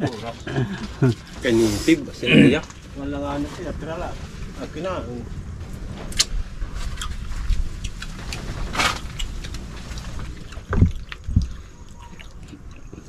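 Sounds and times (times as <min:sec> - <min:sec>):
rustle: 0:00.0 - 0:12.7
wind rumbling on microphone: 0:00.0 - 0:13.0.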